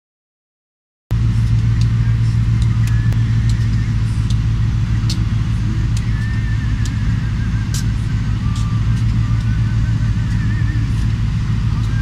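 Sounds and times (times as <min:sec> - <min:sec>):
diesel locomotives idling: 0:01.1 - 0:12.0.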